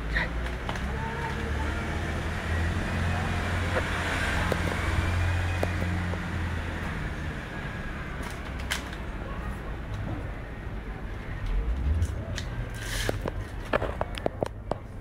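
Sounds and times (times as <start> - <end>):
motor vehicle passing by: 0.2 - 14.4.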